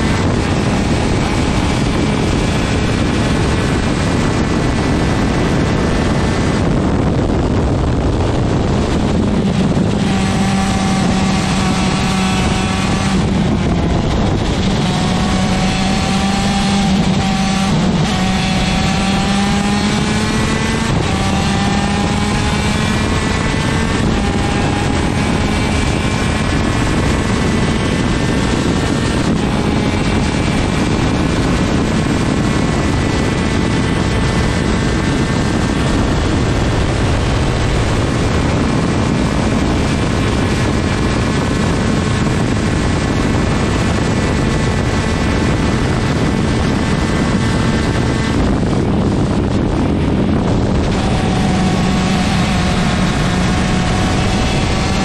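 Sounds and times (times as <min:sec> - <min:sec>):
two-stroke kart engine revving: 0:00.0 - 0:55.0.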